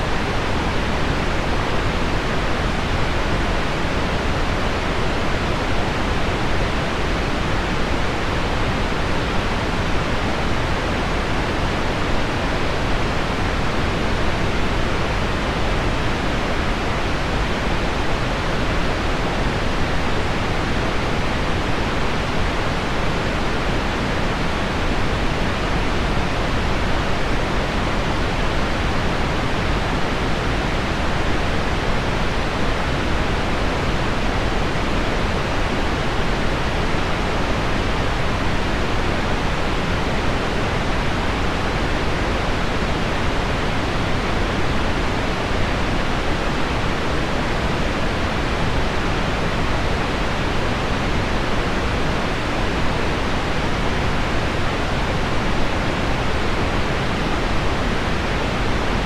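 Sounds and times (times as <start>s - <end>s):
pink noise: 0.0s - 59.0s.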